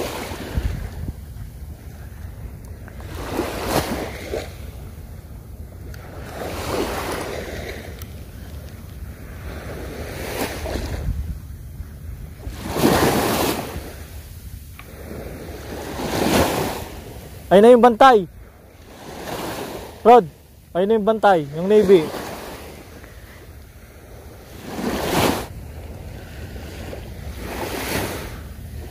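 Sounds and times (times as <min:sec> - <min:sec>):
wind rumble on microphone: 0:00.0 - 0:17.5, 0:21.6 - 0:28.9
small waves breaking on shore: 0:00.0 - 0:28.9.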